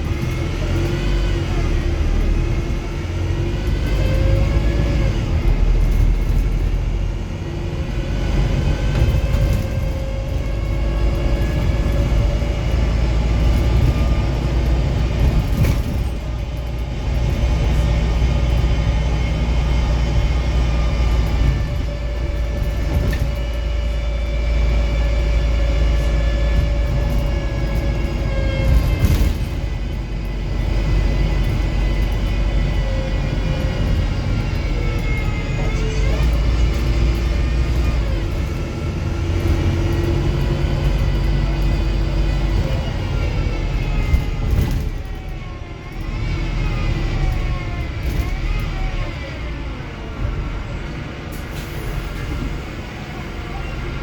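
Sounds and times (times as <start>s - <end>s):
bus engine rumble: 0.0s - 54.0s
drive-train whine: 0.0s - 54.0s.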